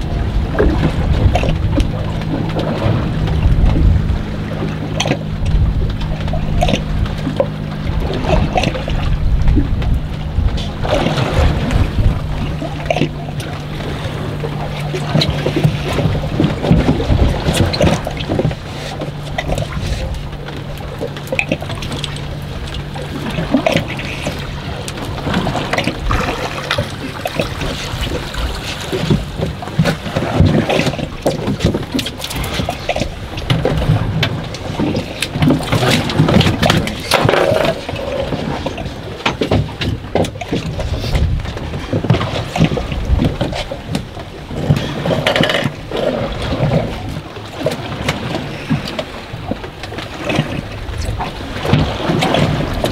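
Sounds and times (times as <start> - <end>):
low steady hum: 0.0 - 52.9
water slapping against boat hull: 0.0 - 52.9.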